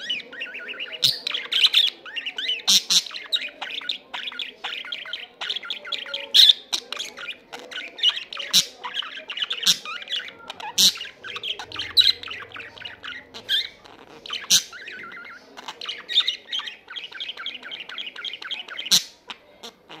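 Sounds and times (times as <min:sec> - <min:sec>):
budgerigar clicks and squawks: 0:00.0 - 0:20.0
budgerigar warbling and chirping: 0:00.0 - 0:20.0.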